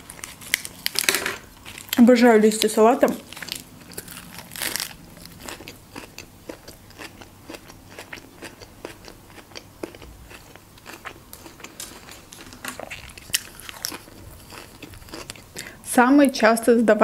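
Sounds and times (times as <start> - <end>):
lettuce being chewed: 0.0 - 2.0, 3.1 - 15.7.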